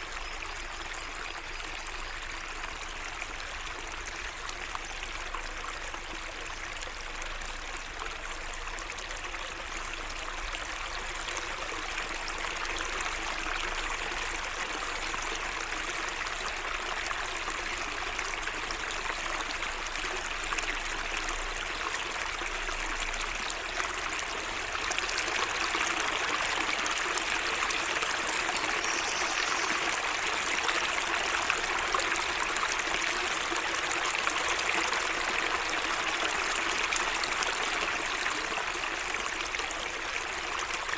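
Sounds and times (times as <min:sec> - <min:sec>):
water trickling and gurgling: 0:00.0 - 0:40.9.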